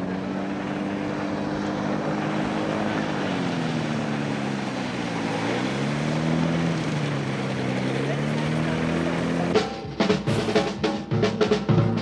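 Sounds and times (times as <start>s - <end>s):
engine and propeller running: 0.0s - 12.0s.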